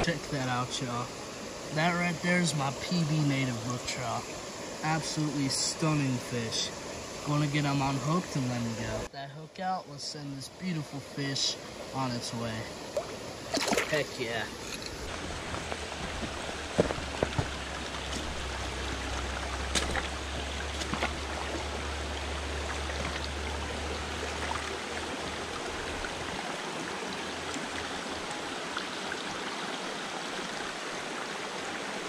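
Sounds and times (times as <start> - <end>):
stream running over rocks: 0.0 - 32.0.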